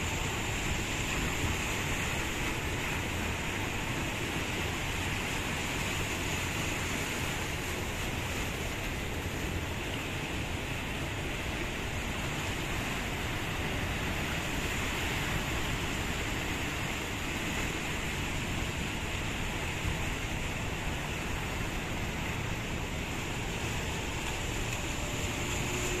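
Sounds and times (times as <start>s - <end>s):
ocean surf: 0.0s - 26.0s
wind: 0.0s - 26.0s.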